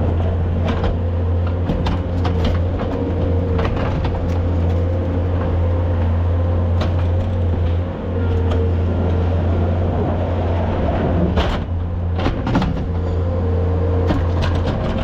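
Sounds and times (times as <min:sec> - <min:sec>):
machine engine droning: 0:00.0 - 0:15.0.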